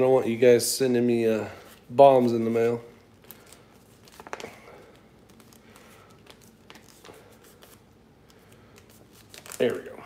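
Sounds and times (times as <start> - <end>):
paper receipt rustling: 1.6 - 10.0.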